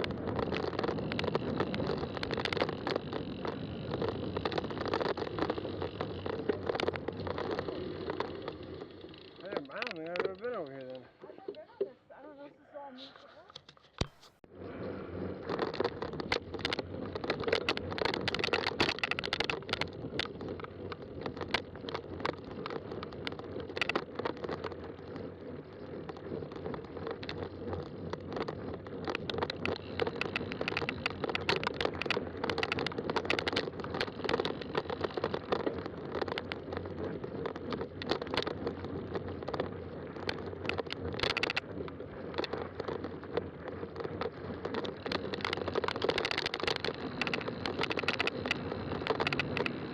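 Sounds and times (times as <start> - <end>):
small clicks and knocks: 0.0 - 12.0, 15.4 - 49.9
bike tyres rumbling on trail: 0.0 - 12.4, 14.0 - 49.9.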